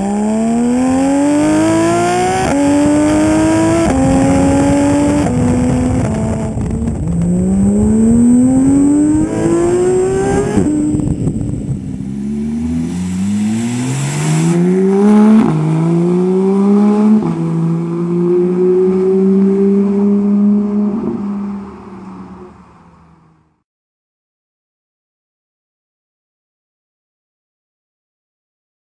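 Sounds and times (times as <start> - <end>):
sports car engine accelerating: 0.0 - 23.5.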